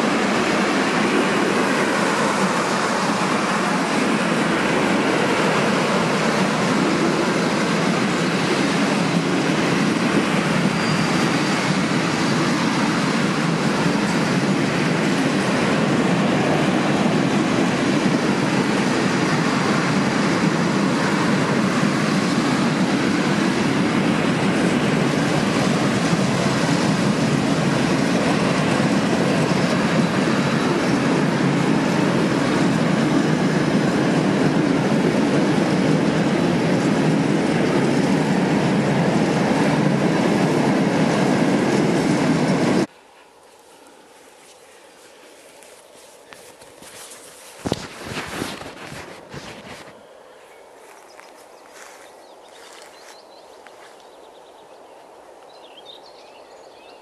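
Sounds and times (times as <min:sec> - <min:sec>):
train wheels running on rails: 0:00.0 - 0:50.0.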